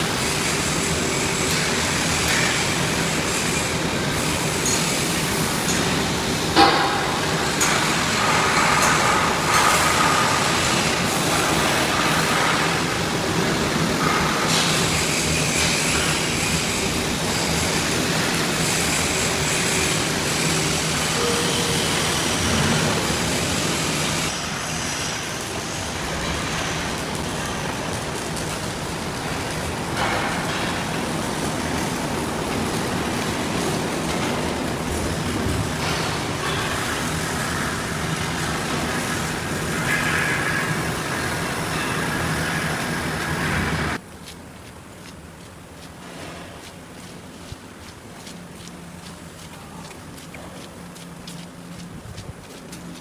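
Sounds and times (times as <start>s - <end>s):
din of machinery and metalwork: 0.0s - 44.0s.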